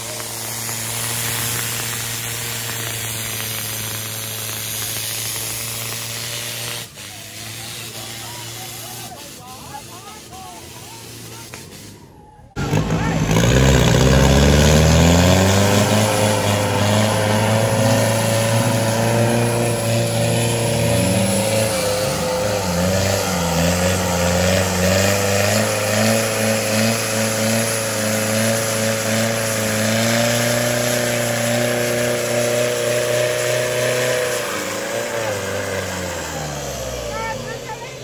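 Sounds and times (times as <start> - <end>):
engine at high revs: 0.0 - 12.0, 12.6 - 38.0.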